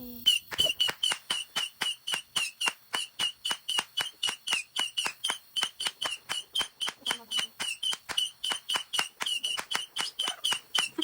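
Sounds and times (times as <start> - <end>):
firework missiles whistling and cracking: 0.0 - 11.0.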